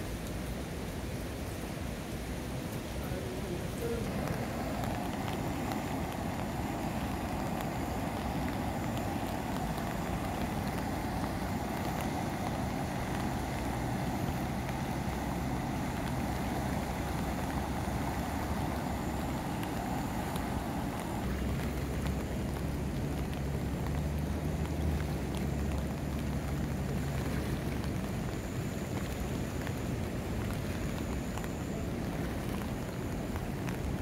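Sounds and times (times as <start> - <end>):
river rushing: 0.0 - 34.0.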